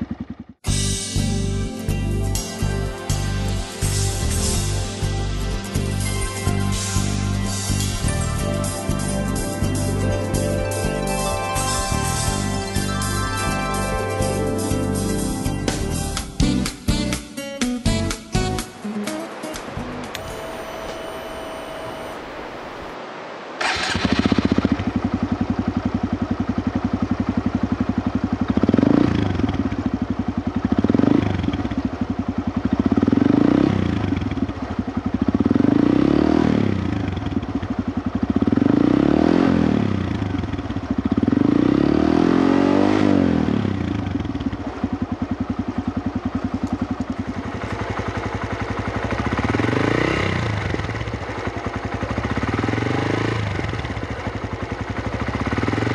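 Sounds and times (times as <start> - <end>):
motorcycle engine starting and revving: 0.0 - 16.8, 23.6 - 55.9.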